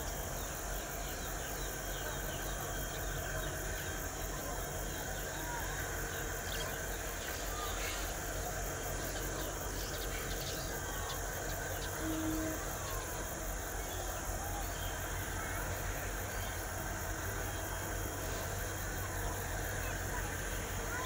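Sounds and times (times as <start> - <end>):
diesel locomotives rumbling: 0.0 - 21.0
high insect buzz: 0.0 - 21.0.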